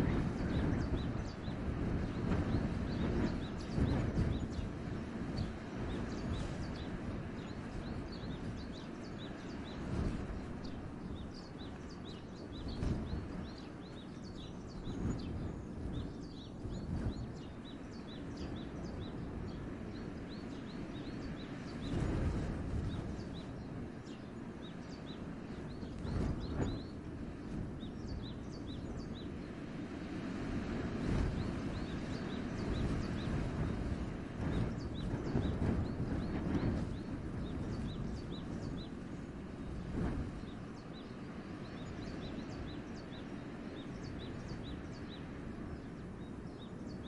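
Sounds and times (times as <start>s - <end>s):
small birds chirping: 0.0s - 47.0s
wind gusting through forest: 0.0s - 47.0s.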